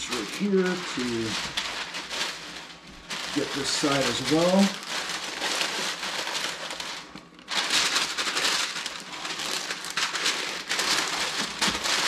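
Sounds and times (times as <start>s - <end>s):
parchment paper crinkling: 0.0s - 12.0s.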